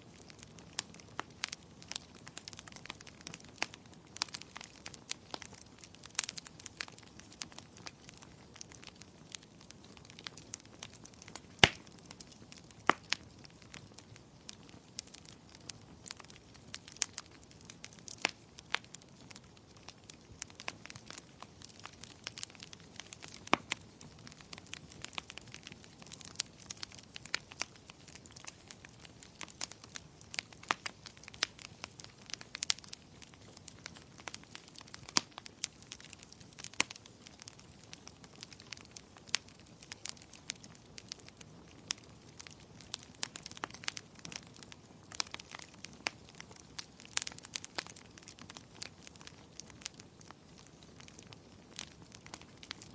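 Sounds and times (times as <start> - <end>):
soft hiss of flames: 0.0 - 52.9
wood fire popping and snapping: 0.0 - 52.9.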